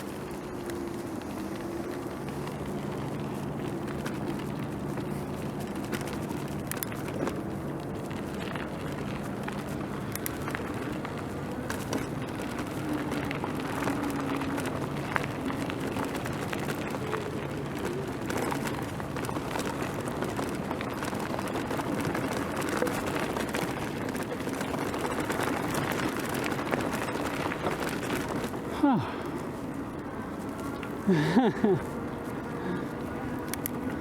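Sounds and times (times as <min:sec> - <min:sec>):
bicycle tyre road noise: 0:00.0 - 0:34.0
bike clicks and rattles: 0:00.0 - 0:34.0.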